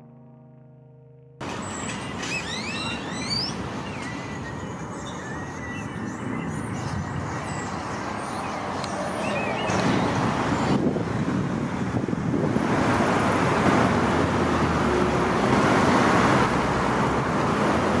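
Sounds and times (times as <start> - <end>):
road traffic noise: 0.4 - 18.0.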